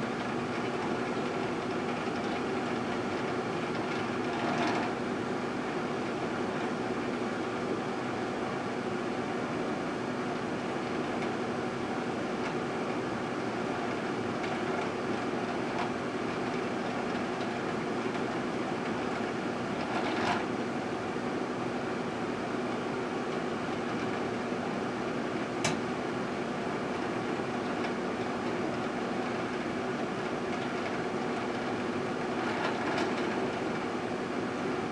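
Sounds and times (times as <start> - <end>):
microwave oven hum: 0.0 - 34.9.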